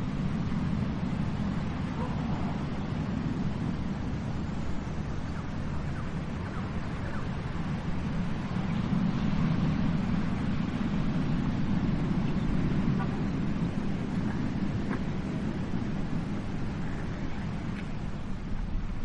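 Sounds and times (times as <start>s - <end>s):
ocean waves washing onto beach: 0.0s - 19.0s.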